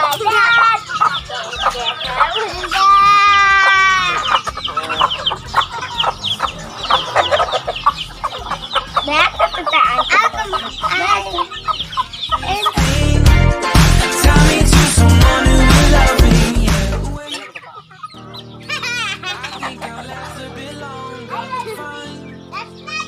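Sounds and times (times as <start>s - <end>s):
chickens clucking and chirping: 0.0s - 23.0s
music: 0.0s - 23.0s.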